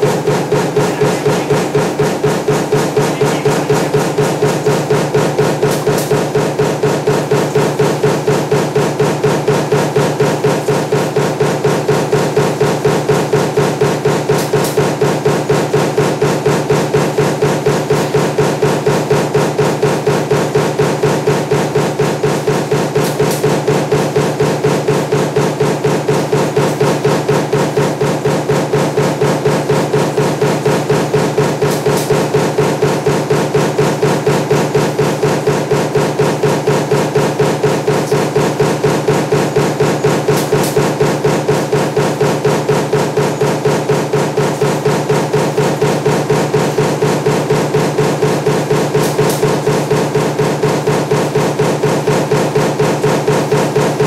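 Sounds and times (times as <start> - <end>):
machine hum: 0.0 - 54.0
punch press stamping: 0.0 - 54.0.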